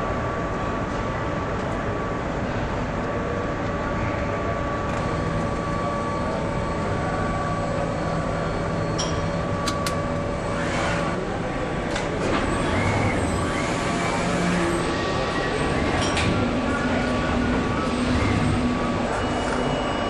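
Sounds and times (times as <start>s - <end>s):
production line machinery hum: 0.0s - 20.0s.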